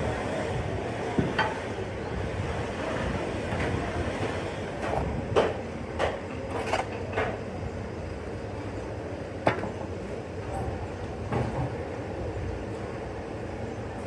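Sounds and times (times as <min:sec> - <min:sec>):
workshop rumble: 0:00.0 - 0:14.0.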